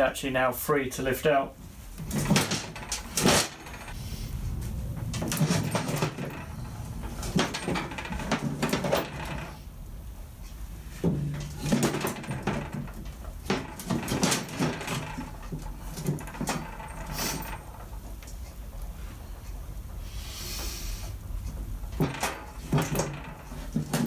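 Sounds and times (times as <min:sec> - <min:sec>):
heavy thumps: 0:01.6 - 0:24.0
metal clunks and scrapes: 0:01.7 - 0:09.7, 0:10.4 - 0:24.0.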